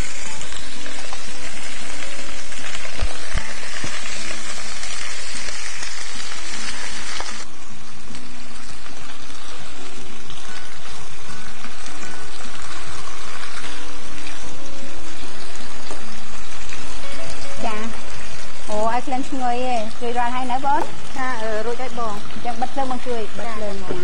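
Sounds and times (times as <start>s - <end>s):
cabbage sizzling in a pan: 0.0s - 24.0s.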